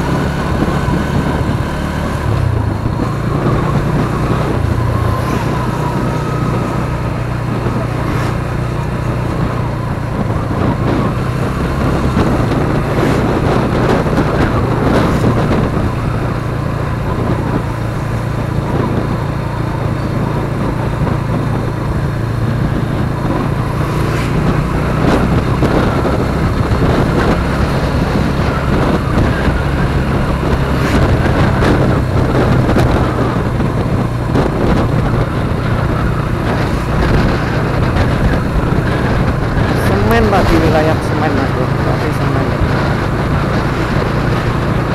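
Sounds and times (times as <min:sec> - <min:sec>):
motorcycle engine running: 0:00.0 - 0:44.9
wind noise on microphone: 0:00.0 - 0:44.9.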